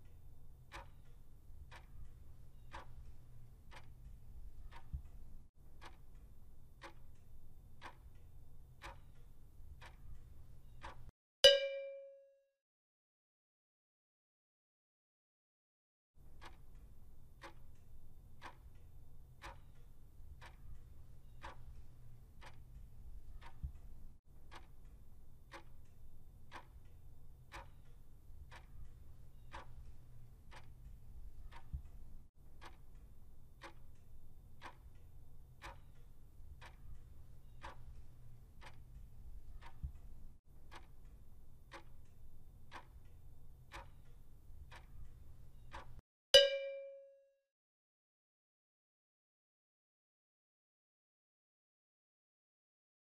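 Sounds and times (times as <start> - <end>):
clock ticking: 0.0 - 12.0, 16.2 - 47.1.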